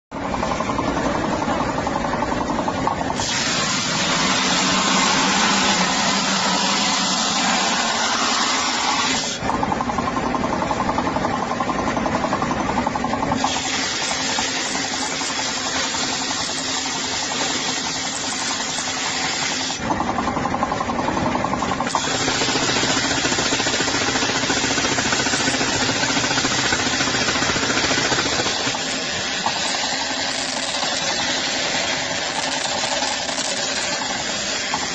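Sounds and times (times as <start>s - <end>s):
machinery humming: 0.1s - 34.9s.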